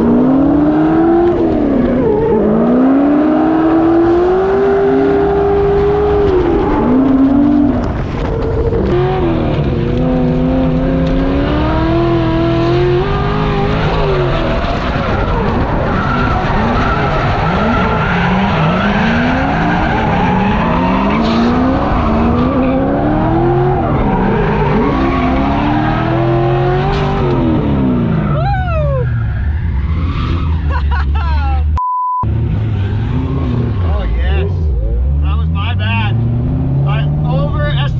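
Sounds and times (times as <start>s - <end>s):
car engine revving: 0.0s - 37.9s
tyres skidding and squealing: 0.0s - 37.9s.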